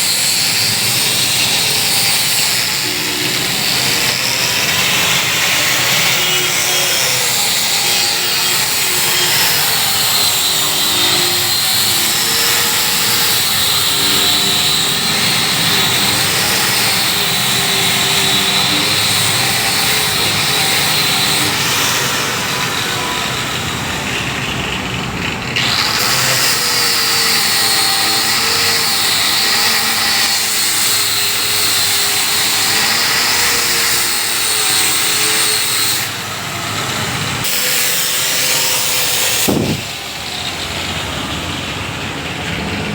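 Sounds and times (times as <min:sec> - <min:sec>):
power tool cutting wood: 0:00.0 - 0:42.9.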